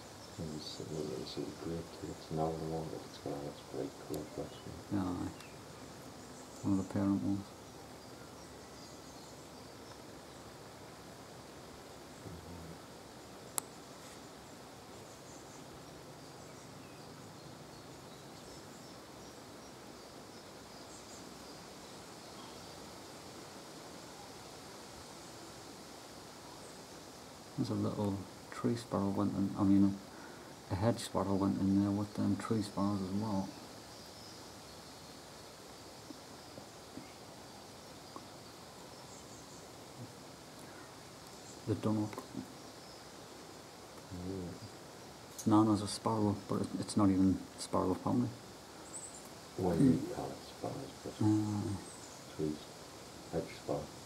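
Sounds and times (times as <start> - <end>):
background hiss: 0.0 - 54.0
small birds chirping: 0.0 - 54.0.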